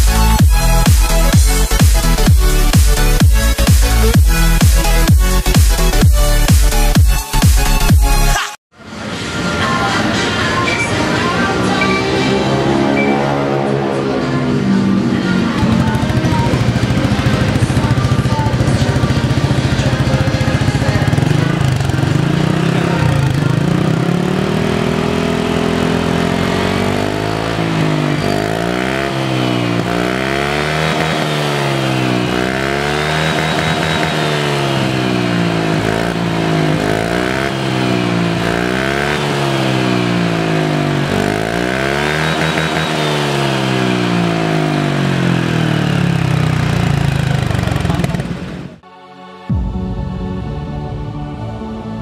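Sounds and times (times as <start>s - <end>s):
motorcycle engine revving: 0.0s - 8.4s, 9.0s - 48.8s.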